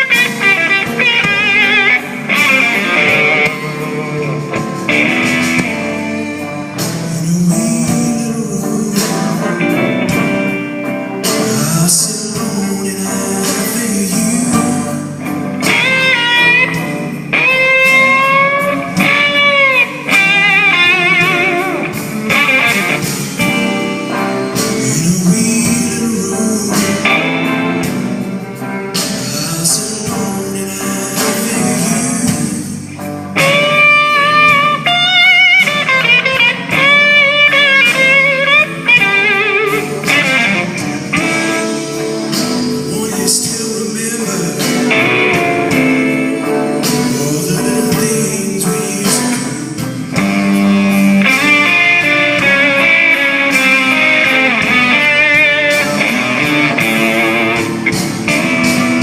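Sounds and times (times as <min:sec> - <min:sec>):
blues-rock band playing: 0:00.0 - 0:59.0
electric guitar high notes: 0:00.0 - 0:59.0.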